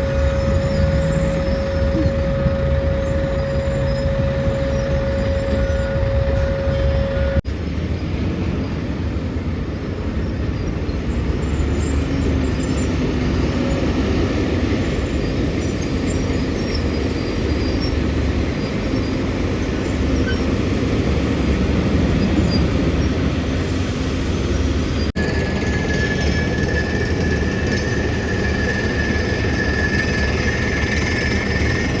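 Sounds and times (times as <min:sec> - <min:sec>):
excavator diesel engine running: 0:00.0 - 0:07.4, 0:11.6 - 0:32.0.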